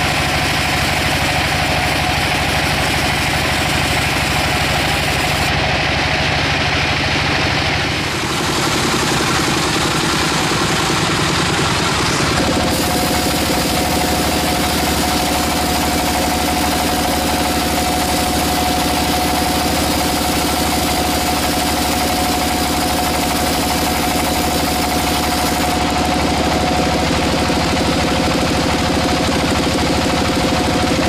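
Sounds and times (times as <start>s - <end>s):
constant high whine: 0.0s - 30.4s
sawmill machinery drone: 0.0s - 31.0s.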